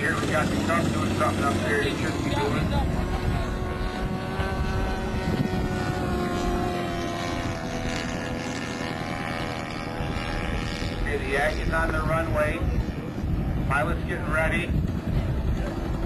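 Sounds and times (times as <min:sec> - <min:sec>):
model airplane engine and propeller: 0:00.0 - 0:16.0.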